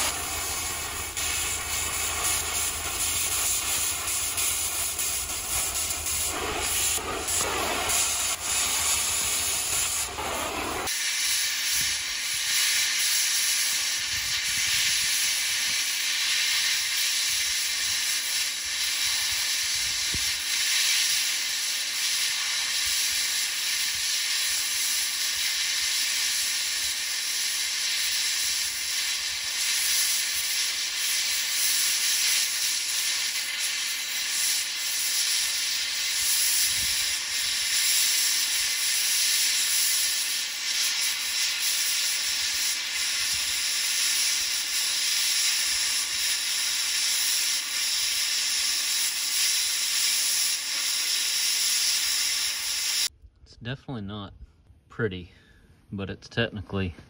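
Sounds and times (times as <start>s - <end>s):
torch hissing: 0.0s - 53.1s.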